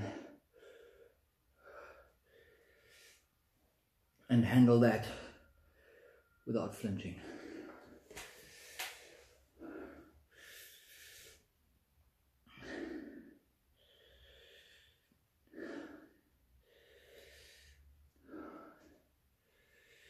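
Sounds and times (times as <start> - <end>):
man breathing hard: 0.0 - 3.4, 4.9 - 6.4, 7.1 - 11.6, 12.4 - 20.0.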